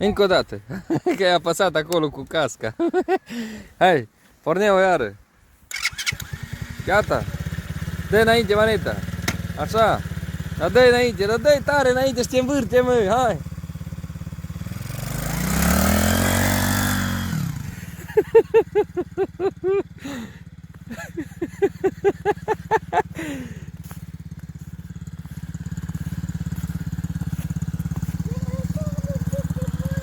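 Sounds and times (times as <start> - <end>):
small engine revving and idling: 5.7 - 30.0.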